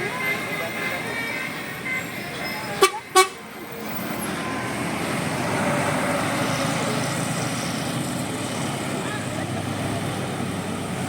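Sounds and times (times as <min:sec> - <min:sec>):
heavy vehicle passing: 0:00.0 - 0:11.0.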